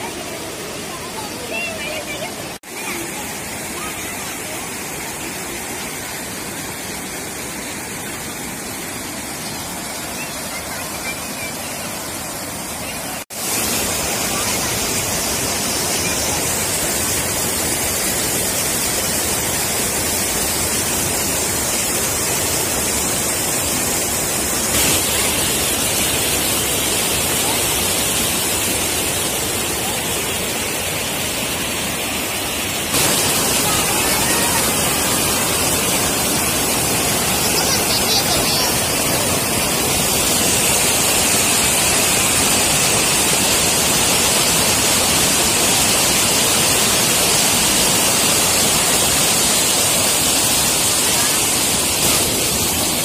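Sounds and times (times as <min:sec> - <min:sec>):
floodwater rushing through rapids: 0:00.0 - 0:53.0.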